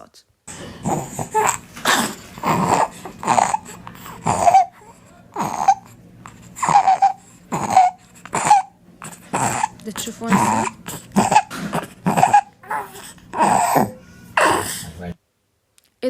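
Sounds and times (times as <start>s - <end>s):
child's squeaky breathing: 0.9s - 14.9s.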